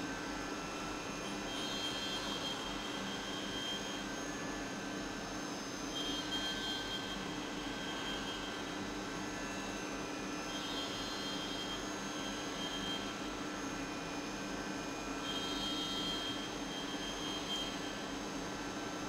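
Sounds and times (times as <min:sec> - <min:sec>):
high machine whine: 0:00.0 - 0:19.0
milling machine hum: 0:00.1 - 0:19.0.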